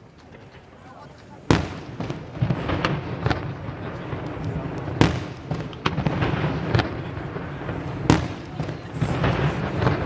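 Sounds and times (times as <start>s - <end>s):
firework crackle: 0.0s - 10.0s.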